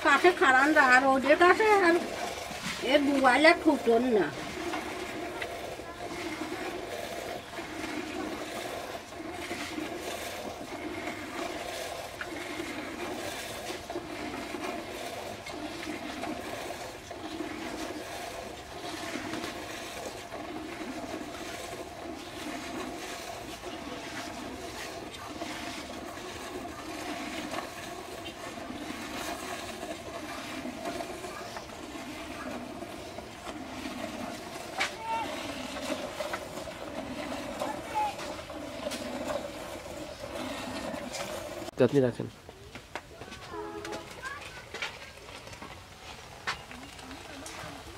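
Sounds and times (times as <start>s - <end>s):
milk squirting into a bowl: 0.2s - 41.8s.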